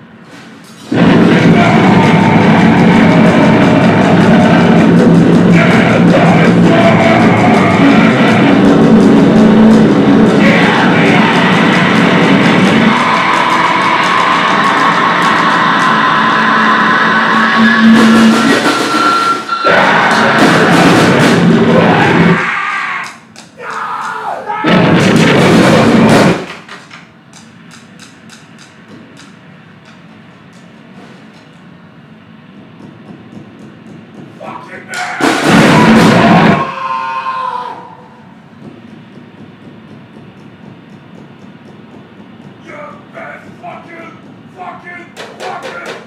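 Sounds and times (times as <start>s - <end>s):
distorted noise-grind music: 0.0s - 46.0s.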